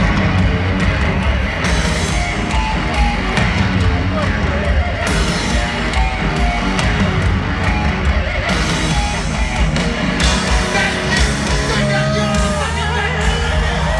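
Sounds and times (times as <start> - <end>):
bass guitar: 0.0 - 13.9
distorted electric guitar: 0.0 - 13.9
drums: 0.0 - 13.9.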